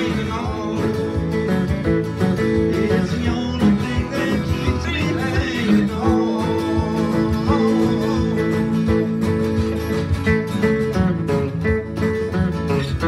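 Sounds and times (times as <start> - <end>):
acoustic guitars strumming country: 0.0 - 13.0.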